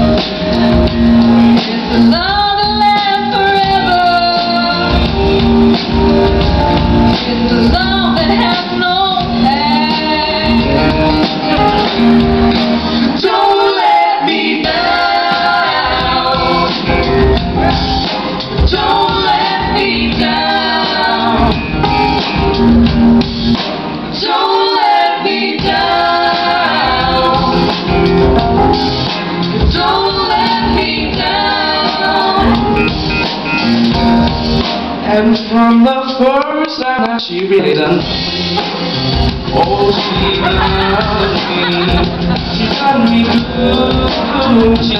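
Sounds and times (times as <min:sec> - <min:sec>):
people singing together: 0:00.0 - 0:06.4, 0:07.0 - 0:22.7, 0:23.6 - 0:33.3, 0:38.5 - 0:44.9
keyboards and beat: 0:00.0 - 0:44.9.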